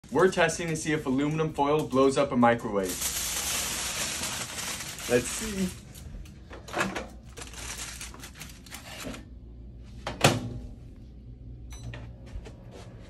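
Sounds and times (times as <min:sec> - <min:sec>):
microwave oven humming: 0:00.1 - 0:13.0.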